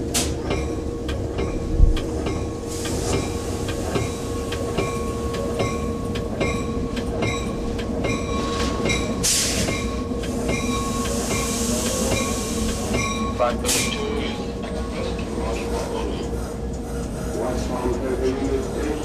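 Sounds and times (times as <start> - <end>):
diesel locomotive engine rumble: 0.0 - 19.0.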